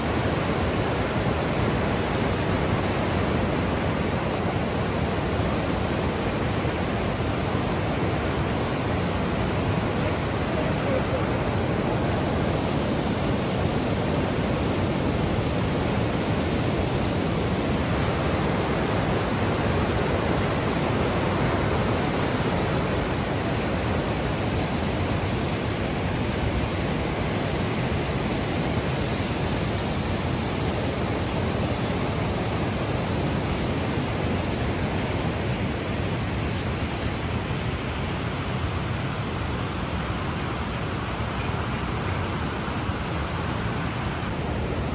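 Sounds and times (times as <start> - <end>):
rapids rushing over boulders: 0.0 - 44.9.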